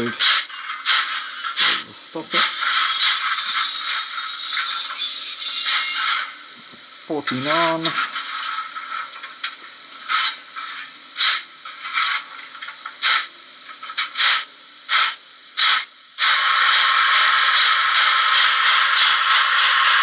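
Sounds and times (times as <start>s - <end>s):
model locomotive exhaust chuffs: 0.0s - 20.0s
steam hiss: 0.0s - 20.0s.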